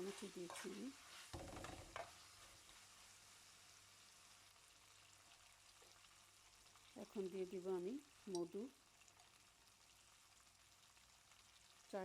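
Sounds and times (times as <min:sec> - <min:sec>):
chicken sizzling: 0:00.0 - 0:12.0.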